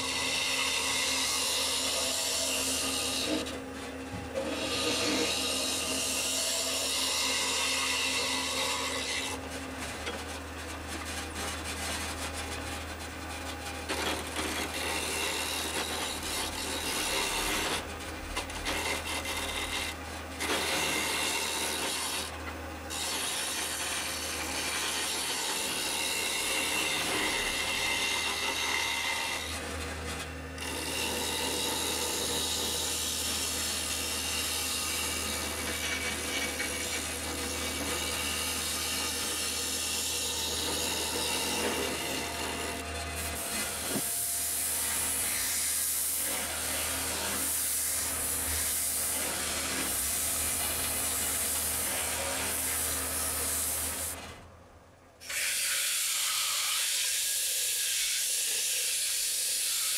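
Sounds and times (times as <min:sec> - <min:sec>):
wood lathe cutting scraping hiss: 0:00.0 - 0:54.3, 0:55.2 - 0:59.9.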